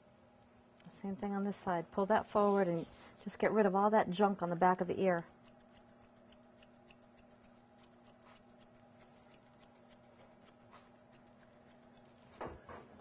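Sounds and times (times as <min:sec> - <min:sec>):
shears snipping hair: 0:00.8 - 0:12.4.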